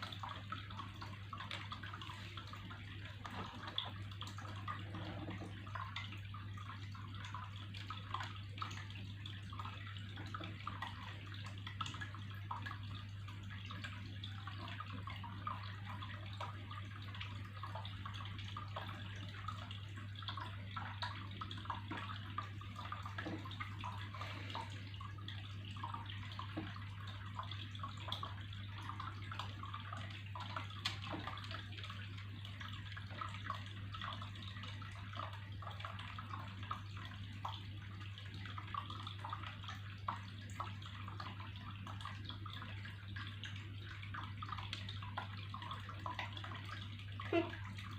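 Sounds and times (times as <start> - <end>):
small splashes: 0.0 - 47.9
water trickling and bubbling: 0.0 - 47.9.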